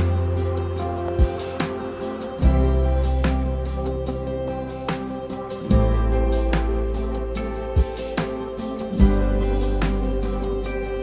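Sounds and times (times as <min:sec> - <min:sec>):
gentle acoustic guitar music: 0:00.0 - 0:11.0.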